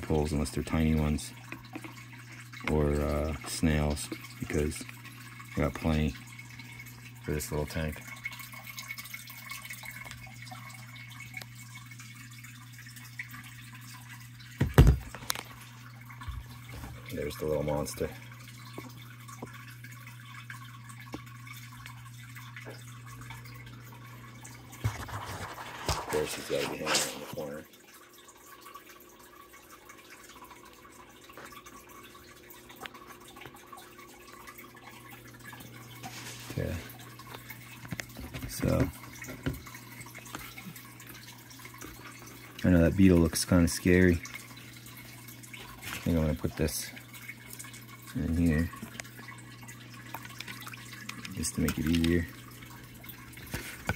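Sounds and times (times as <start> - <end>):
water dripping and splashing: 0.0 - 26.6, 27.2 - 53.9
low steady hum: 0.0 - 53.9.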